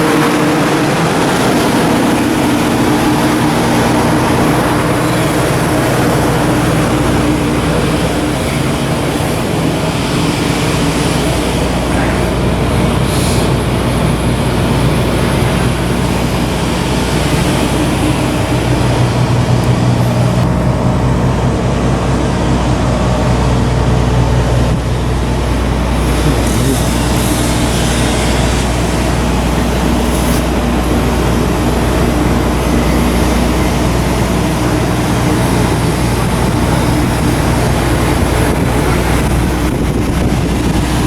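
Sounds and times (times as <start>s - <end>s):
machinery hum: 0.0s - 41.0s.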